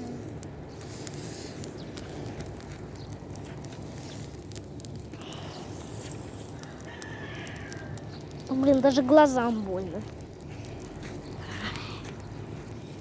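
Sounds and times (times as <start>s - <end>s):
burning hay crackling: 0.0s - 13.0s
low rumble of fire: 0.0s - 13.0s.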